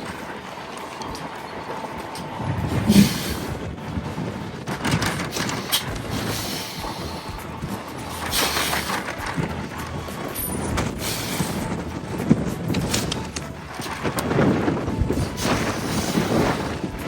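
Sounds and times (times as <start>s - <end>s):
heavy truck engine running: 0.0s - 17.0s
outdoor noise: 0.0s - 17.0s.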